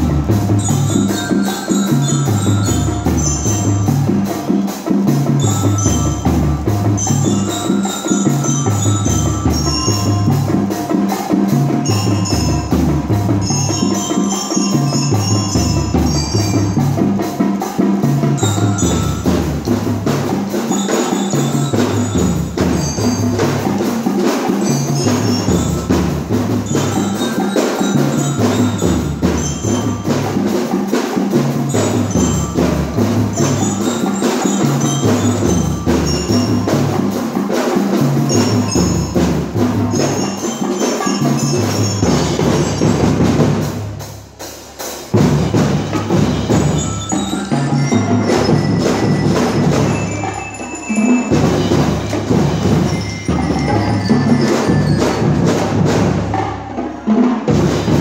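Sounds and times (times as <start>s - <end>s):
glockenspiel melody: 0.0s - 44.1s, 45.1s - 56.4s
marching drums beat: 0.0s - 58.0s.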